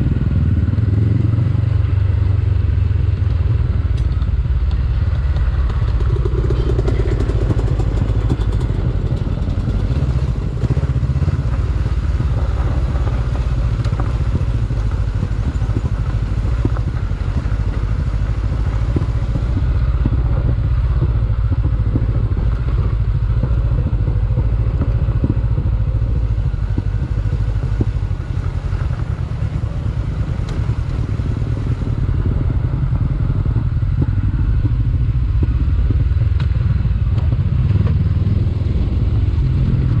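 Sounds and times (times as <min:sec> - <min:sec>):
motorcycle engine running: 0:00.0 - 0:40.0
knocks and rattles on rocky trail: 0:04.0 - 0:38.0.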